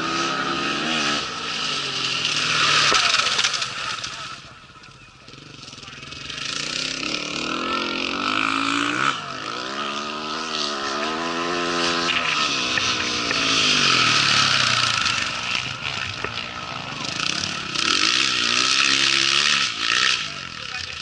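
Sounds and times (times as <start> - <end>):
motorcycle engine passing: 0.0 - 21.0.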